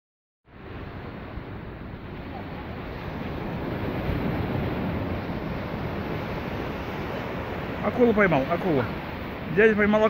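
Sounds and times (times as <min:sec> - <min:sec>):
surf washing onto beach: 0:00.5 - 0:10.0
wind buffeting microphone: 0:00.6 - 0:10.0.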